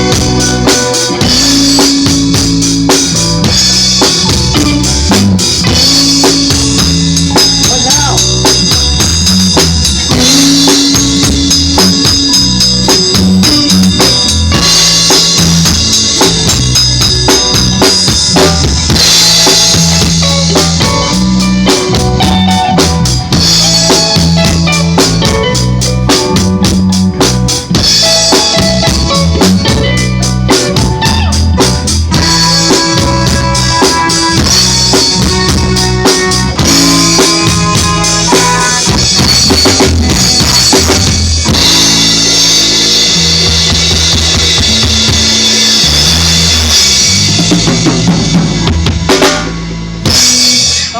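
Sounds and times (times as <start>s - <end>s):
drum kit beat: 0.0s - 50.9s
live band playing: 0.0s - 50.9s.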